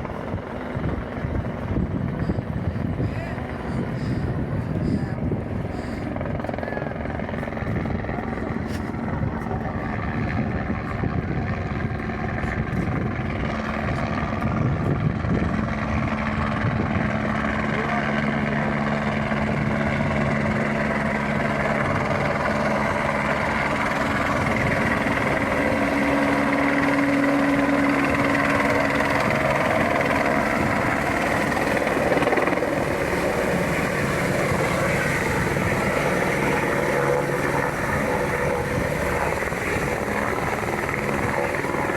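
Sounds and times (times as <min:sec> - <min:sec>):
helicopter rotor and turbine: 0:00.0 - 0:41.9.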